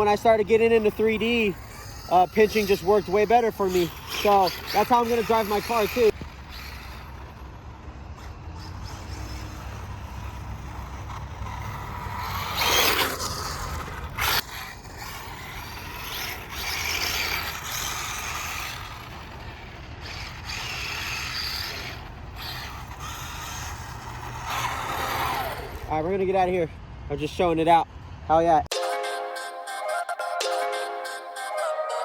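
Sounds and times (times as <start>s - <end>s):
toy car electric motor whining: 0.0s - 26.0s.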